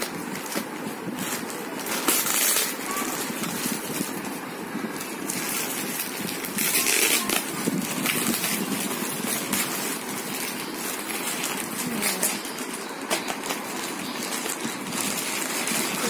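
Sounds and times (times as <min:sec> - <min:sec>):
plastic bag rustling and tearing: 0:00.0 - 0:16.0.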